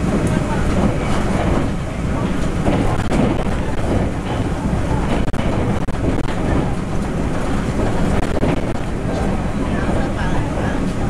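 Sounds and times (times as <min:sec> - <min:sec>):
train wheels rumbling on rail: 0:00.0 - 0:11.0
wind noise: 0:00.0 - 0:11.0.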